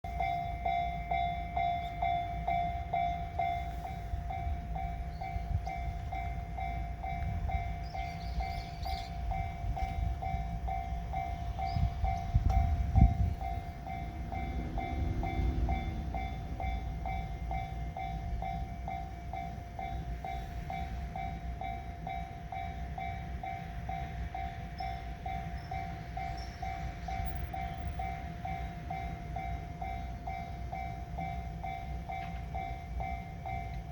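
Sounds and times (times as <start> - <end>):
train rumbling past: 0.0 - 33.9
train whine: 0.0 - 33.9.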